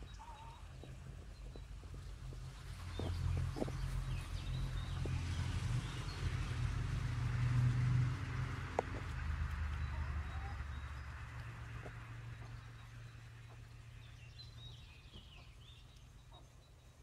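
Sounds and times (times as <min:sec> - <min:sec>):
low rumble: 0:00.0 - 0:16.2.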